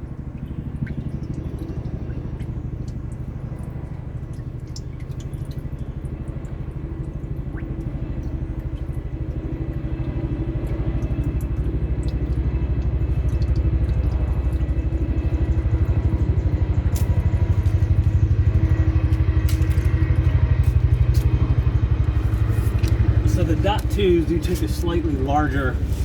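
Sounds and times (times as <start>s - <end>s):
motor running steadily: 0.0s - 26.0s.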